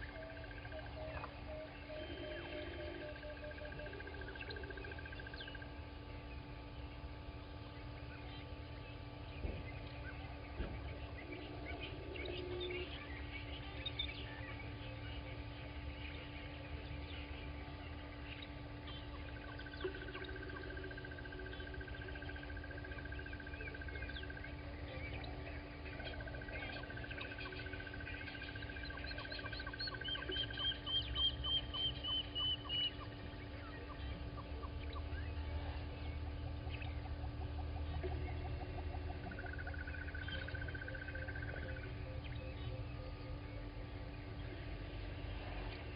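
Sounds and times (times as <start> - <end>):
birds chirping: 0.0 - 45.9
steady low hum: 0.0 - 45.9.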